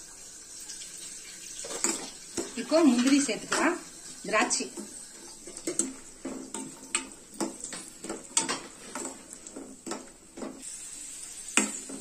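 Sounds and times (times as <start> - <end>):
steel spoon scraping a metal pan: 1.5 - 12.0.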